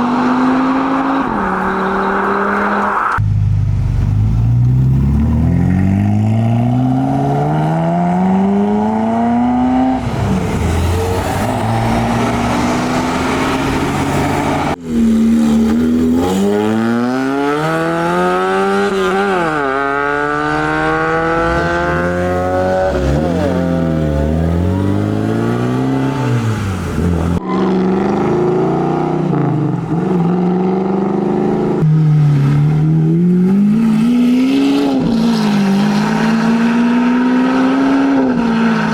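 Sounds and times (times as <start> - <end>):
car engines accelerating hard: 0.0 - 38.9.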